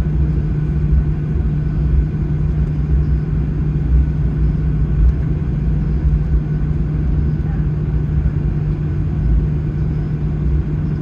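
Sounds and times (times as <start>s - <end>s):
aircraft cabin rumble: 0.0s - 11.0s
even hum: 0.0s - 11.0s.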